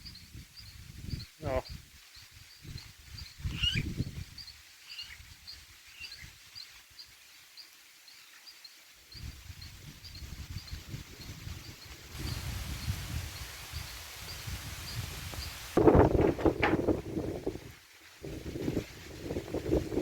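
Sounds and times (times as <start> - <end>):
wind gusting across microphone: 0.0 - 6.4, 9.1 - 20.0.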